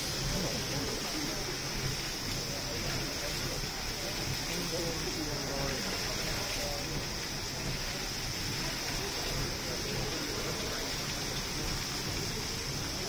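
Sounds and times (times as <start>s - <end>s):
geyser hissing spray: 0.0s - 13.0s
water splashing into pool: 0.0s - 13.0s.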